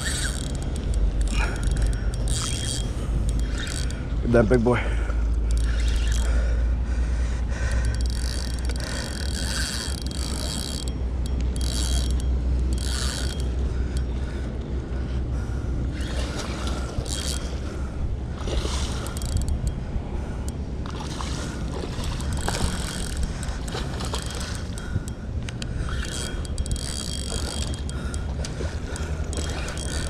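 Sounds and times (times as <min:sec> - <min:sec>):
spinning reel cranking: 0:00.0 - 0:06.6, 0:07.6 - 0:14.1, 0:15.9 - 0:17.7, 0:18.7 - 0:19.8, 0:20.4 - 0:30.0.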